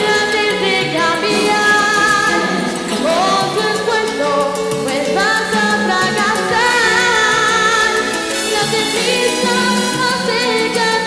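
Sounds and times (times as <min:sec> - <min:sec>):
girl singing into microphone: 0:00.0 - 0:11.0
instrumental accompaniment with beat: 0:00.0 - 0:11.0.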